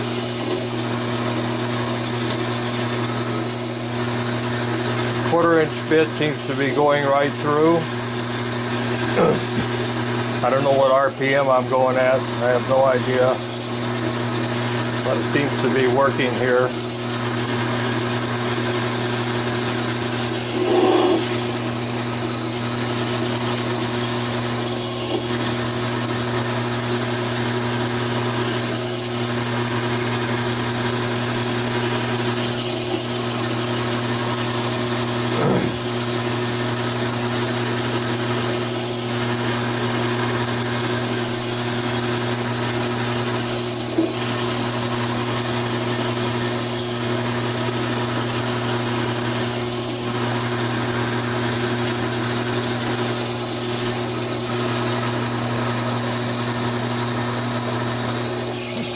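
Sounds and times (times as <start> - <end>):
lathe drilling steel: 0.0 - 58.9.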